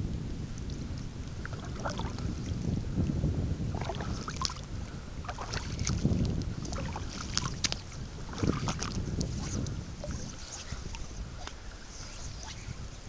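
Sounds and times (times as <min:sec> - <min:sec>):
wind buffeting microphone: 0:00.0 - 0:13.0
shallow water splashing: 0:00.5 - 0:03.0, 0:03.6 - 0:12.7.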